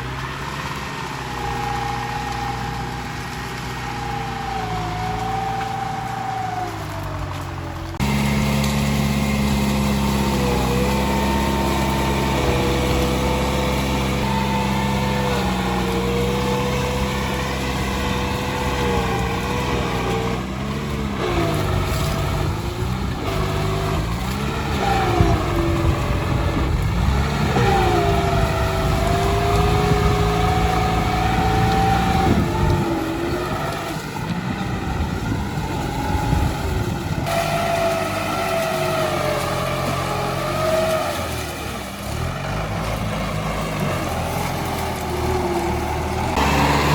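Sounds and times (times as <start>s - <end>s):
tractor engine running hard: 0.0s - 46.9s.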